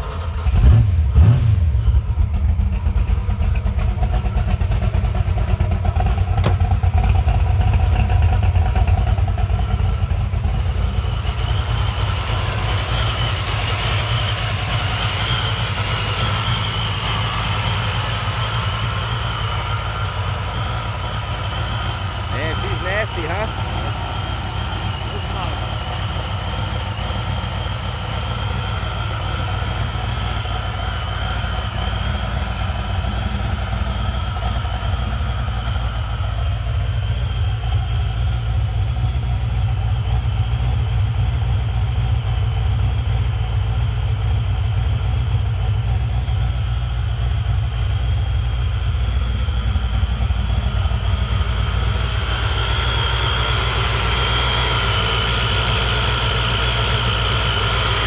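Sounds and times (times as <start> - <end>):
car engine idling with deep rumble: 0.0 - 58.0.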